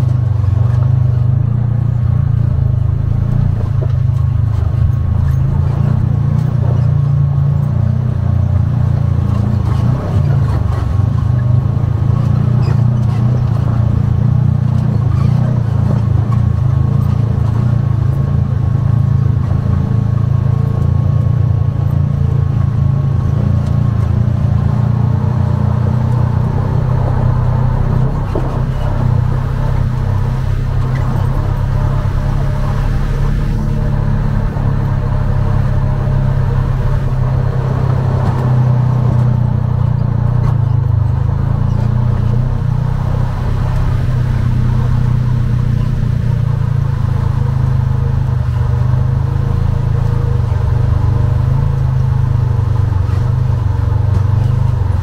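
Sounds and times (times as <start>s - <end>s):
vehicle engine droning: 0.0s - 55.0s.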